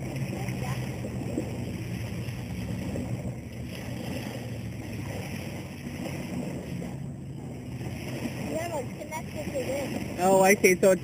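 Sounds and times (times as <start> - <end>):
engine humming: 0.0 - 11.0
wind: 0.0 - 11.0.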